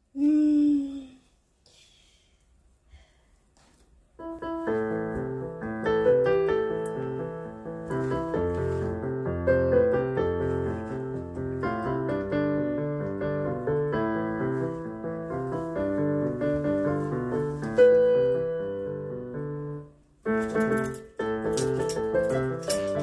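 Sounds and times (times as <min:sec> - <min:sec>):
keyboard melody: 0:04.2 - 0:23.0.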